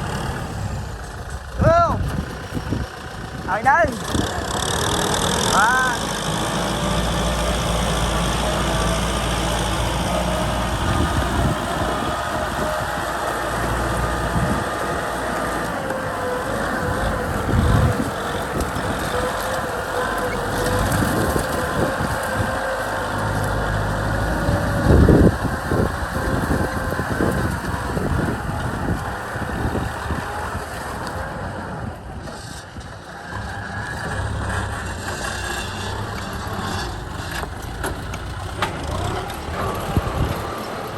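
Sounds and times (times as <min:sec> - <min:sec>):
tractor diesel engine rumbling: 0:00.0 - 0:40.9
wind buffeting microphone: 0:00.0 - 0:40.9.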